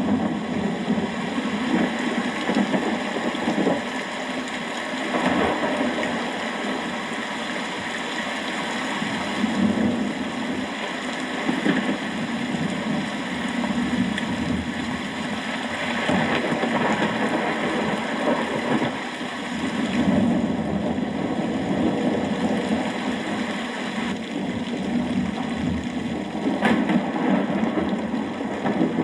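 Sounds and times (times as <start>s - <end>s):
steady rain hiss: 0.0s - 29.0s.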